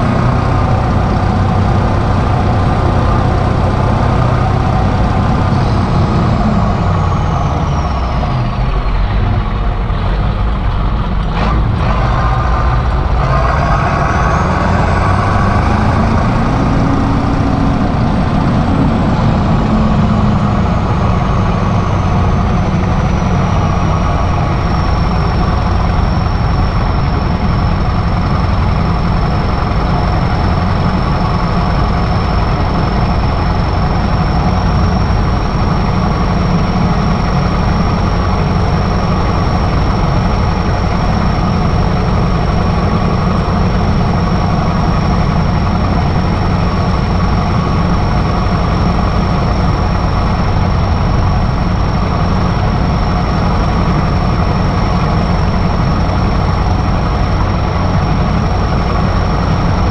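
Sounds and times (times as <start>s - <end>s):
turbocharger whistle: 0.0s - 9.0s, 11.9s - 59.9s
tractor diesel engine running: 0.0s - 59.9s.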